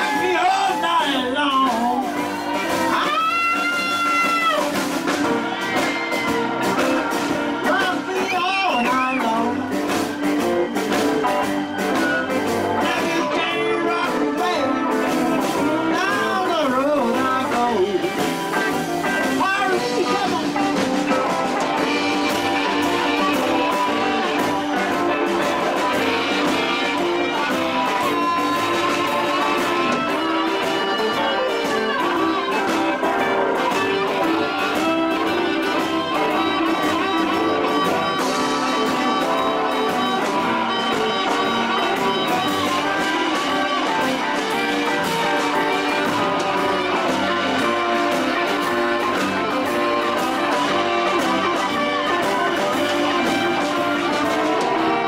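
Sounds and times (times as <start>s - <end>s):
drums: 0.0s - 55.0s
electric guitar: 0.0s - 55.0s
harmonica: 0.0s - 55.0s
upright bass: 0.0s - 55.0s.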